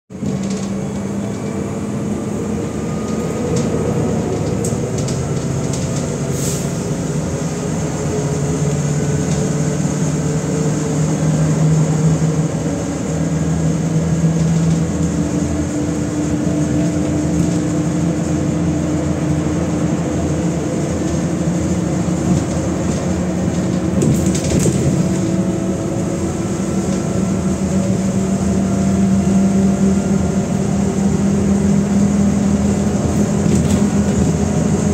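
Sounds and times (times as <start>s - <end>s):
bus engine and drivetrain hum: 0.1s - 34.9s
road noise: 0.1s - 34.9s.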